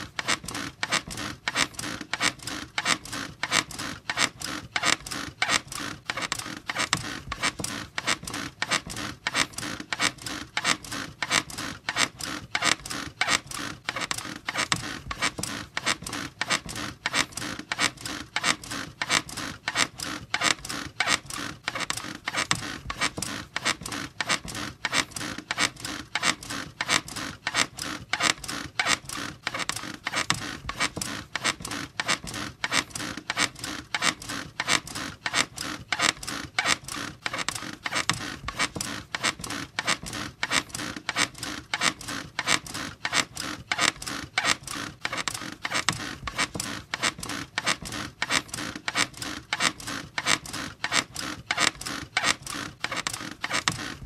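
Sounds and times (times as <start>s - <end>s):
bed frame and springs creaking: 0.0s - 54.0s.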